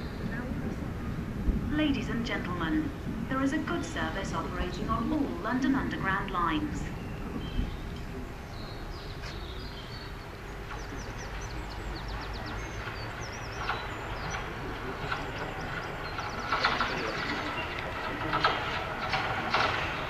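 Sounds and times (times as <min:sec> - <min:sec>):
rattling clicks of train: 0:00.0 - 0:20.0
train rumbling on track: 0:00.0 - 0:20.0.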